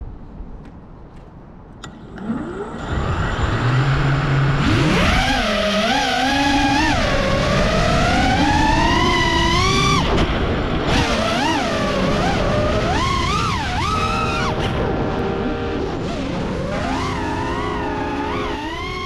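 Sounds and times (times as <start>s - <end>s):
drone motors whining: 1.8s - 19.0s.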